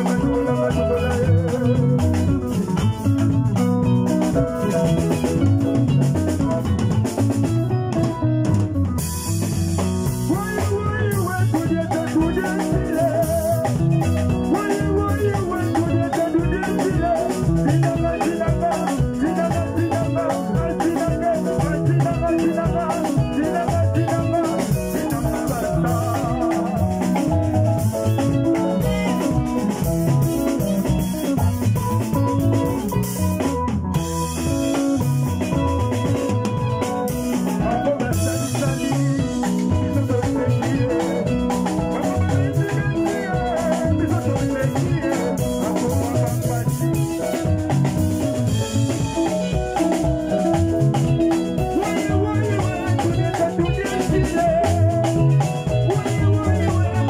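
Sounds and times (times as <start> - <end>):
upbeat instrumental band music: 0.0 - 57.0.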